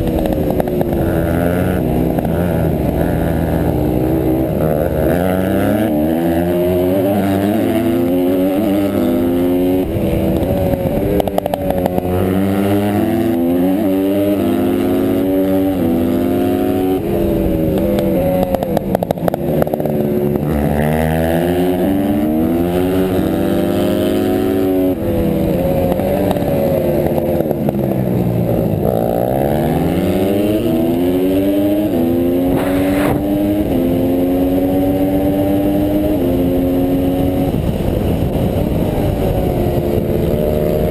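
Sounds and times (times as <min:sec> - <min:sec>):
dirt bike engine racing: 0:00.0 - 0:40.9.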